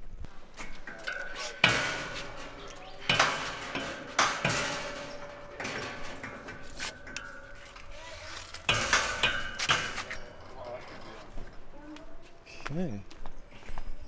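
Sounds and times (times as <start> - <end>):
sharp ringing knocks and clanks: 0.3 - 13.6.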